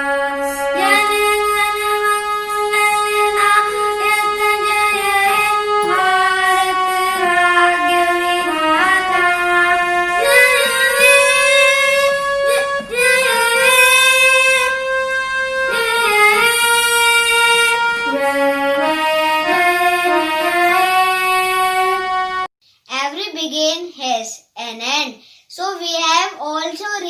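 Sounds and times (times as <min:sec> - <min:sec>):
melody of long sliding notes: 0:00.0 - 0:22.5.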